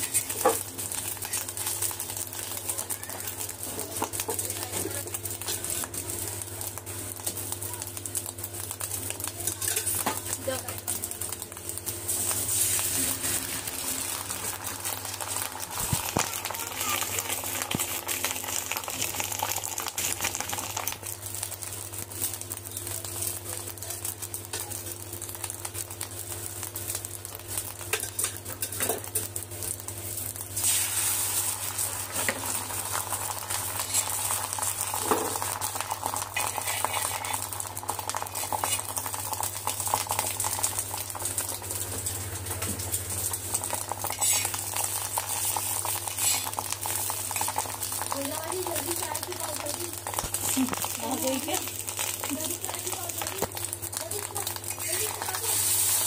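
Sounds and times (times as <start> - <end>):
omelettes sizzling in oil: 0.0 - 56.0.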